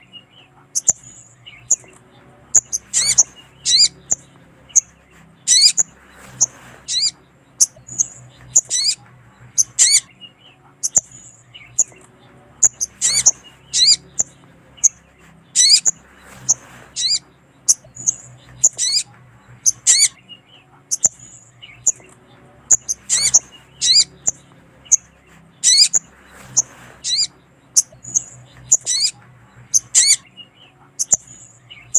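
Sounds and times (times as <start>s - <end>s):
bird chirping: 0.0s - 31.9s
faint low hum: 0.0s - 31.9s.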